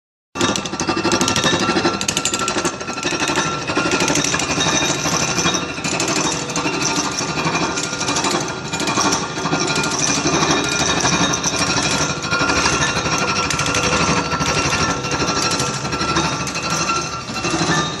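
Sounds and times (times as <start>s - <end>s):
milling machine metallic rattle: 0.4s - 18.0s.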